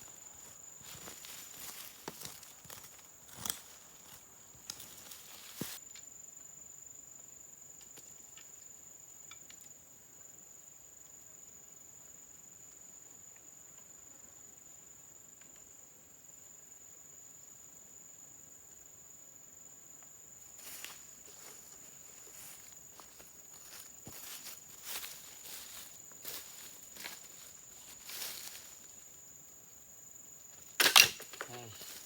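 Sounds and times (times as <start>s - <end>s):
insect drone: 0.0s - 32.0s.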